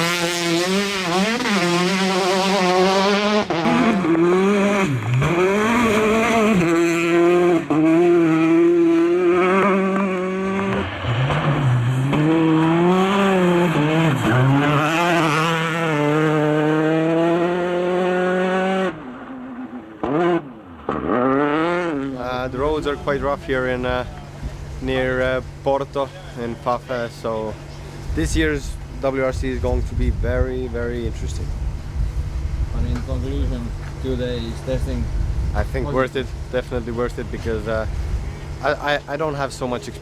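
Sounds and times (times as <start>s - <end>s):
rally car engine revving: 0.0s - 40.0s.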